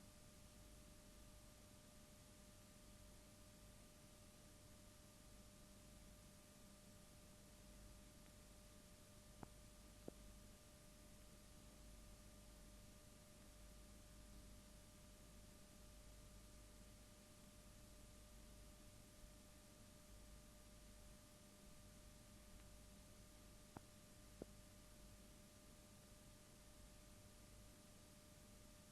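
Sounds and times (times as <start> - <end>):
faint hum: 0.0 - 28.9.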